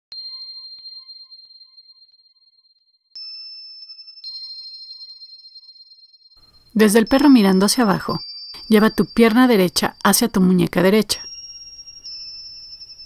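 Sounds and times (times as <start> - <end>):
bell-like chimes ringing: 0.1 - 13.0.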